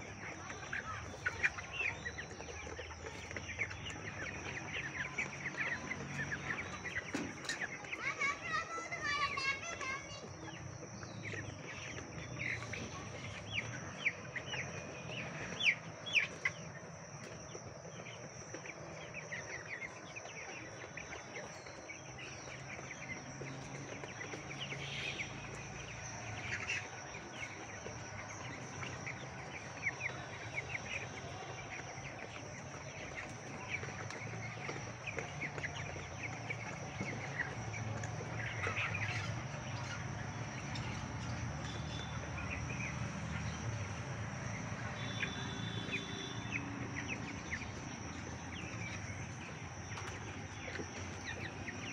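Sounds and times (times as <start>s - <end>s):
chicks peeping and chirping: 0.0s - 51.9s.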